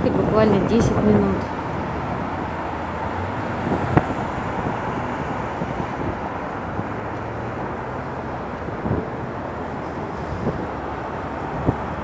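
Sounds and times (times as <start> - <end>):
distant city traffic hum: 0.0 - 12.0.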